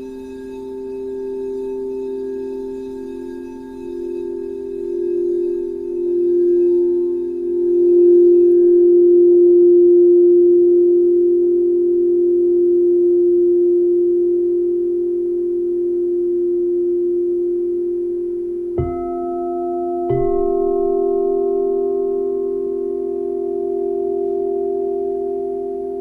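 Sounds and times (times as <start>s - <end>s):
singing bowl ringing: 0.0s - 26.0s.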